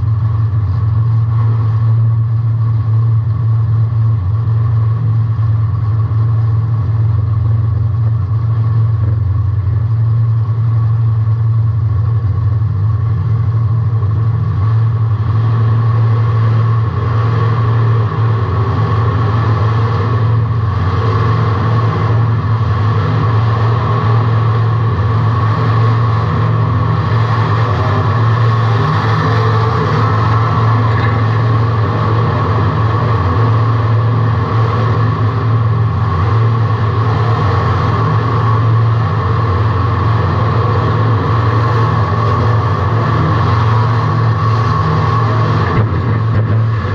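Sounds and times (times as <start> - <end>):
race car engine drone: 0.0 - 46.9.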